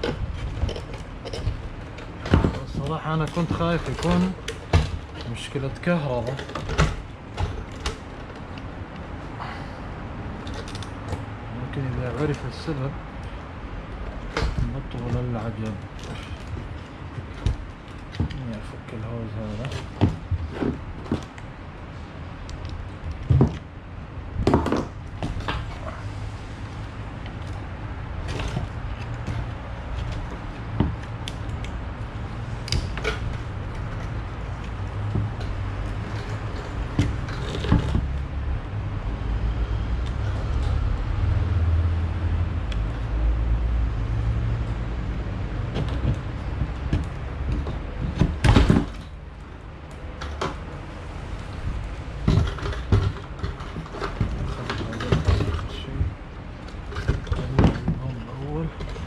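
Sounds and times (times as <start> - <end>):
clicks and knocks of hand work: 0.0 - 9.4, 10.3 - 21.6, 24.4 - 26.1, 26.7 - 38.4, 43.9 - 59.0.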